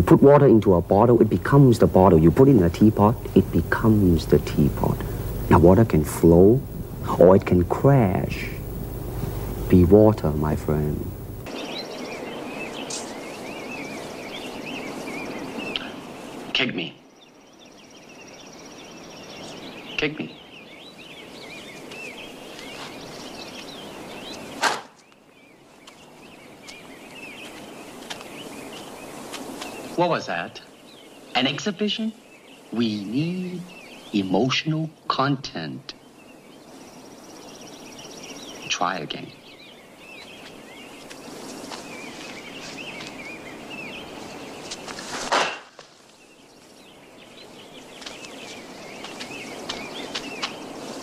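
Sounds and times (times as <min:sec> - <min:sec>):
birds chirping: 0:00.0 - 0:51.0
steady hiss: 0:00.0 - 0:51.0.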